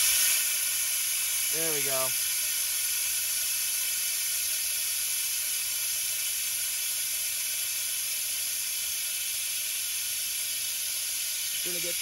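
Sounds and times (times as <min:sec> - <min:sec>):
air vacuum tool hissing: 0:00.0 - 0:12.0.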